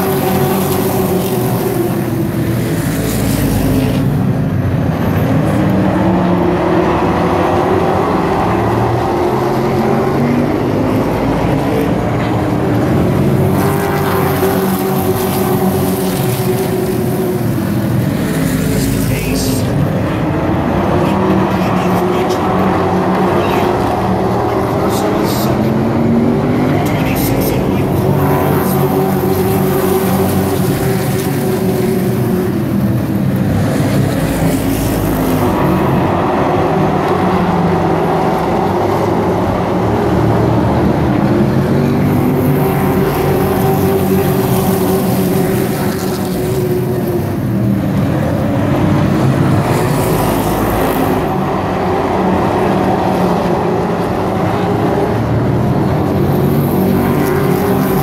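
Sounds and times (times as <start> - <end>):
race truck engines passing: 0.0 - 58.0.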